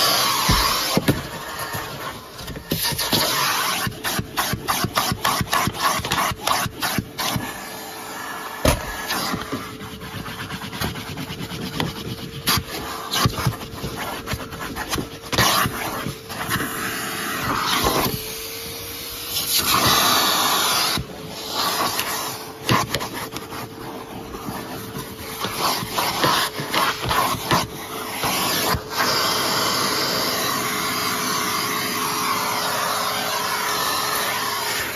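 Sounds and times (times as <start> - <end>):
vacuum cleaner motor whine: 0.0 - 34.9.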